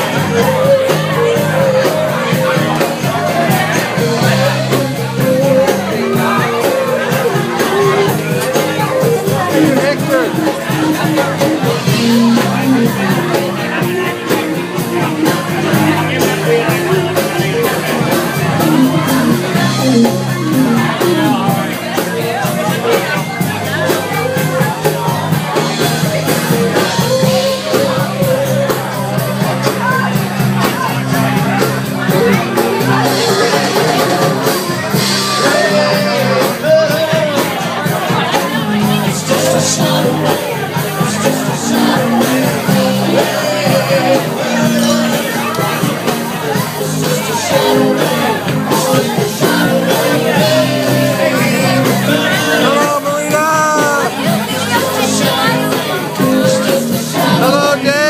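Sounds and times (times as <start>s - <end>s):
person singing: 0.0s - 21.6s, 32.2s - 58.0s
steady drum beat: 0.0s - 58.0s.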